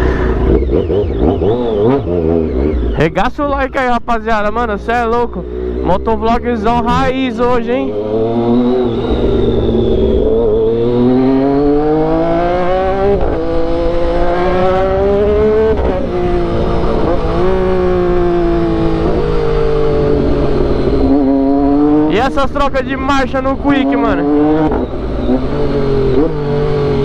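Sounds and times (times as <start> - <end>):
motorcycle engine revving: 0.0 - 27.0
quickshifter upshifts: 0.0 - 27.0.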